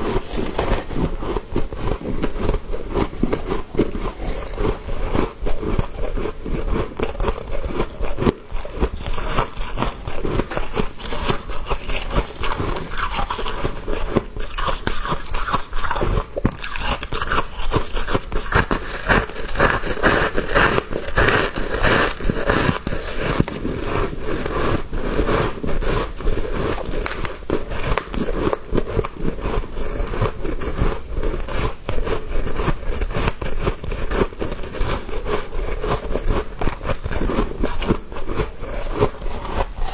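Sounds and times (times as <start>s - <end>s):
crunching ice chewing: 0.0s - 39.9s.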